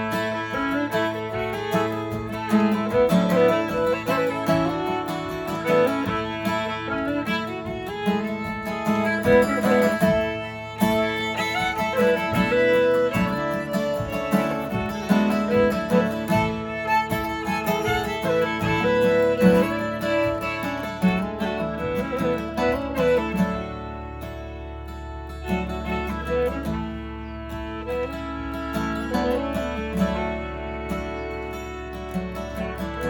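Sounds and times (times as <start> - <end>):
instrumental folk tune on strings: 0.0 - 33.0.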